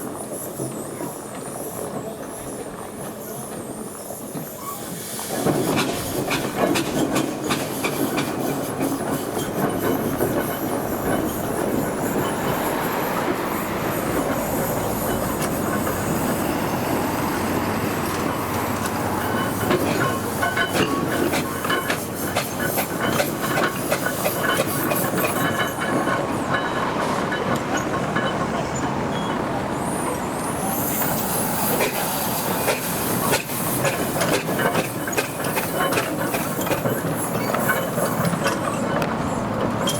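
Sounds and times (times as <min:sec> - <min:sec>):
steam traction engine clattering: 0:00.0 - 0:39.9.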